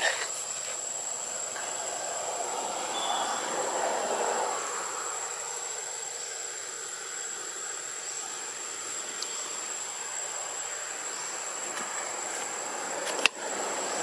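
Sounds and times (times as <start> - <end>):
background hiss: 0.0 - 14.0
high-pitched insect drone: 0.0 - 14.0.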